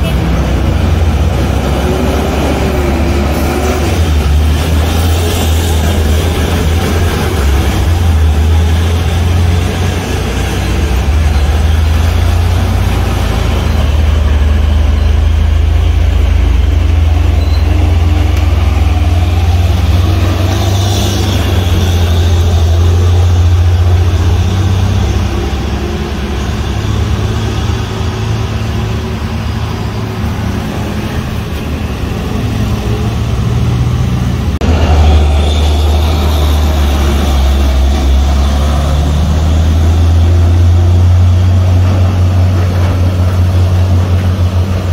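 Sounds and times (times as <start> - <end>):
heavy truck engine droning: 0.0 - 44.9
road traffic: 0.0 - 44.9.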